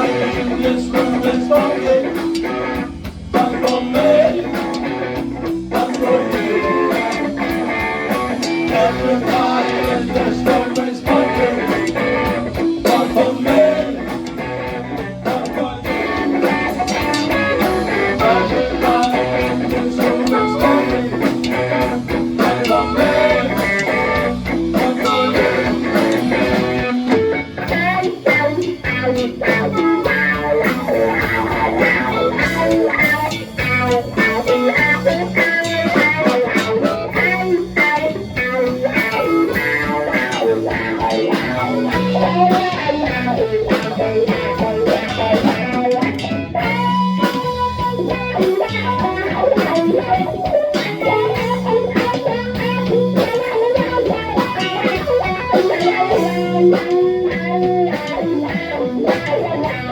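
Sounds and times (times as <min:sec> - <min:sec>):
blues-rock band playing: 0:00.0 - 0:59.9
electric guitar lead: 0:00.0 - 0:59.9.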